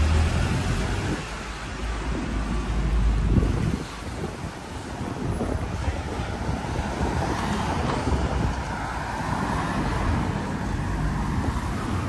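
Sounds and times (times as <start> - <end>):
road traffic: 0.0 - 12.0
vehicle tyre noise: 0.0 - 12.0
wind rumbling on microphone: 0.0 - 12.0.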